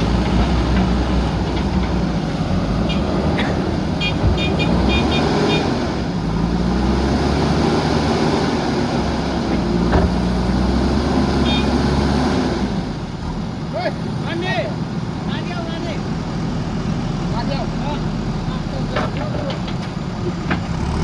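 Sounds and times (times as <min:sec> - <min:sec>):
diesel engine under load: 0:00.0 - 0:21.0.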